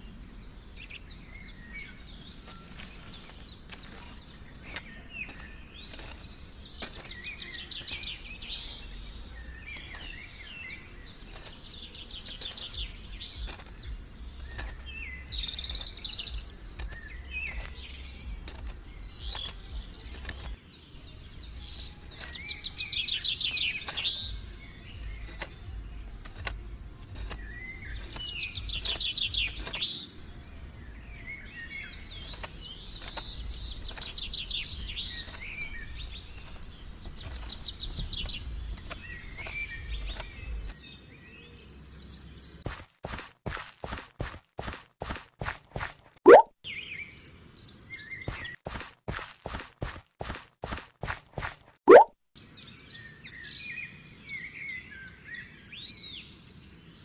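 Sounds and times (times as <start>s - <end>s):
metal hoe scraping soil: 0.0s - 40.9s, 42.3s - 46.4s, 48.2s - 52.0s
small birds chirping: 0.0s - 57.0s.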